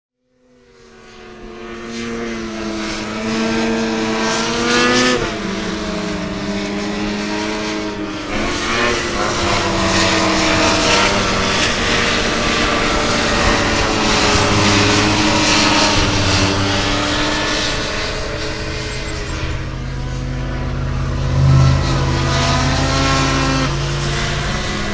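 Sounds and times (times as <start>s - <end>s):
snowmobile engine revving: 1.4s - 24.9s.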